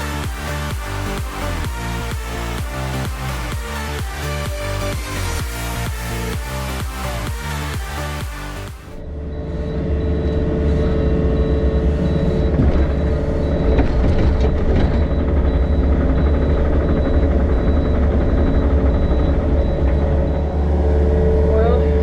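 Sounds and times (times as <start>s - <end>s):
excavator diesel engine drone: 0.0s - 22.0s
hydraulic whine: 0.0s - 22.0s.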